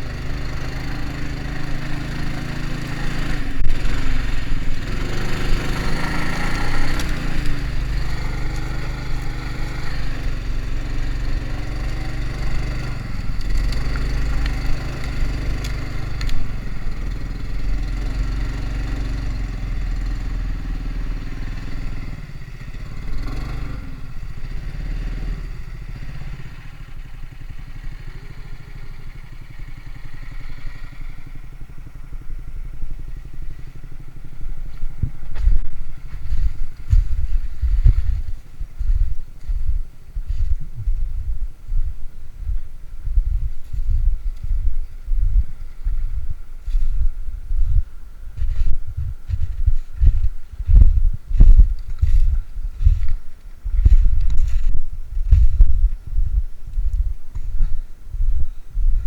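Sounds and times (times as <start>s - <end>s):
vehicle engine running under load: 0.0s - 59.0s.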